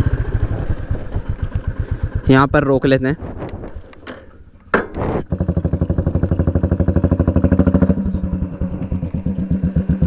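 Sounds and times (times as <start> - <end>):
motorcycle engine thumping: 0.0 - 2.3, 3.3 - 10.0.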